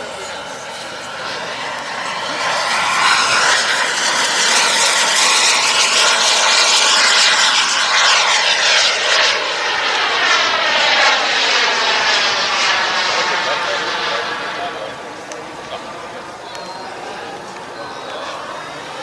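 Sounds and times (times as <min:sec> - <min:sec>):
model jet turbine whining pass: 0:00.0 - 0:19.0.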